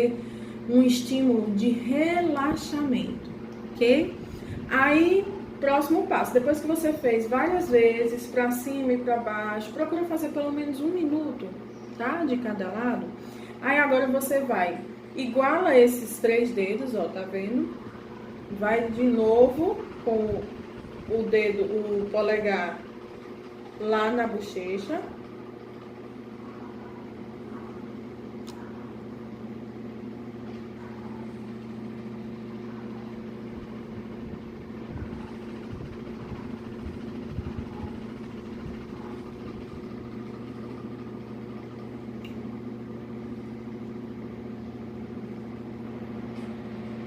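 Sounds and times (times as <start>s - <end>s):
steady mechanical hum: 0.0s - 47.0s.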